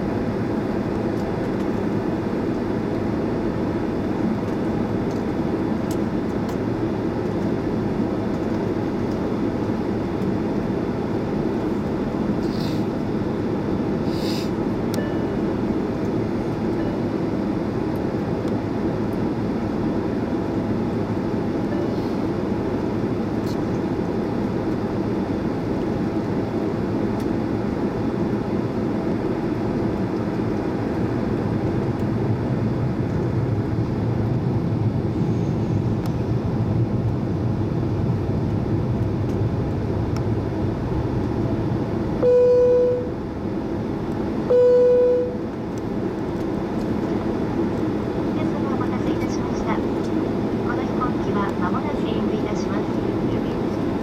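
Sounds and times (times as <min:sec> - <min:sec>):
jet engine cabin rumble: 0:00.0 - 0:54.0.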